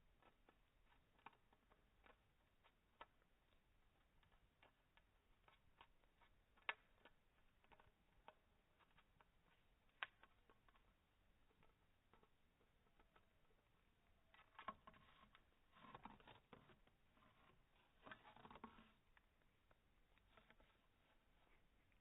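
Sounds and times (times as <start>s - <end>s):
parrot chewing plastic straw: 0.1s - 22.0s.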